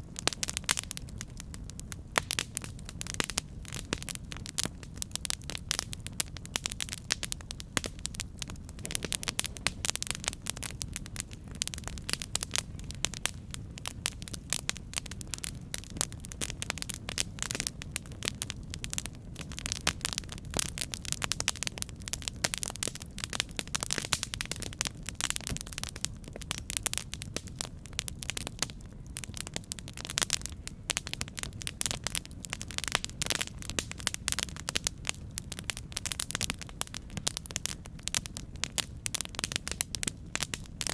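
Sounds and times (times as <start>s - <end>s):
fire low rumble: 0.0s - 40.9s
wood crackling and popping: 0.0s - 40.9s.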